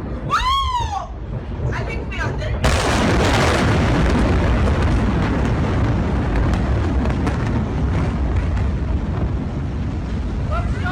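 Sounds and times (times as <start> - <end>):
explosion rumbling roar: 0.0 - 10.9.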